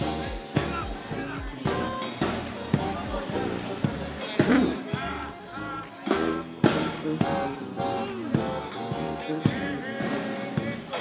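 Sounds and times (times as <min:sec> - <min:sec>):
music with drum beat: 0:00.0 - 0:11.0.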